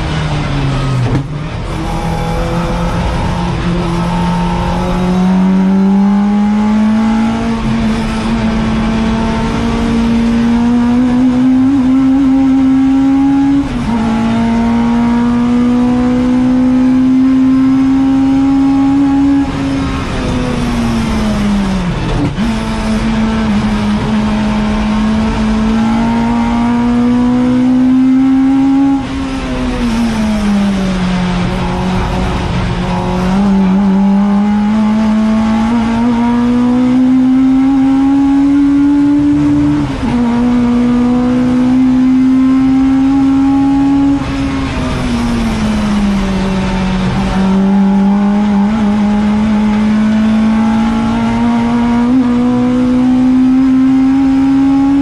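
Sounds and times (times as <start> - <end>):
car engine at full throttle: 0.0 - 55.0.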